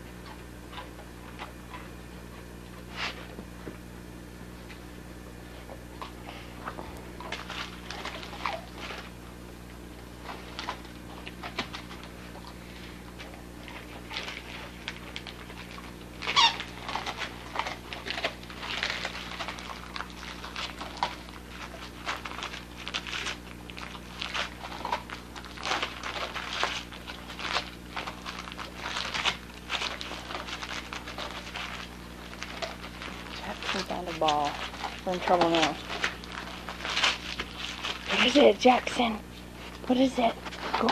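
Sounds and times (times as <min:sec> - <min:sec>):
dogs tearing wrapping paper: 0:06.3 - 0:40.9.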